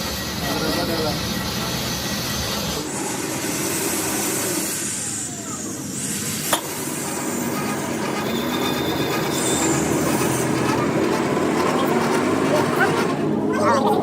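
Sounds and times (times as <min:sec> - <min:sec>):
steady mechanical running noise: 0:00.0 - 0:14.0.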